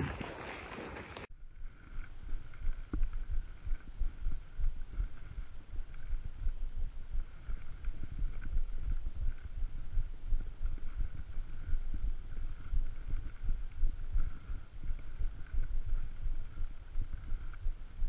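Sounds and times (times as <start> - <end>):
footsteps on rough ground: 0.0 - 18.0.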